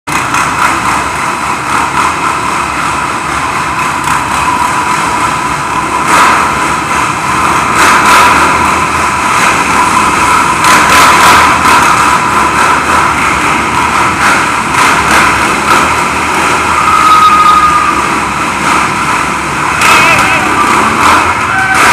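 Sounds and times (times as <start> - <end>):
atv engines revving: 0.1 - 21.9.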